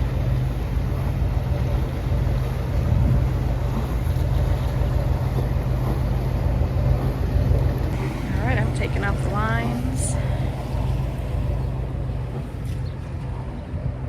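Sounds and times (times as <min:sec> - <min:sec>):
boat engine rumbling: 0:00.0 - 0:14.0
wind noise on microphone: 0:00.0 - 0:14.0.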